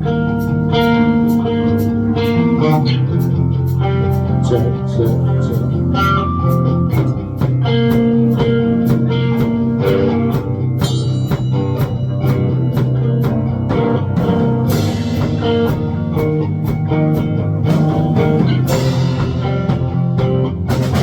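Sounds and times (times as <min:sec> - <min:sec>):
rock band music: 0:00.0 - 0:21.0.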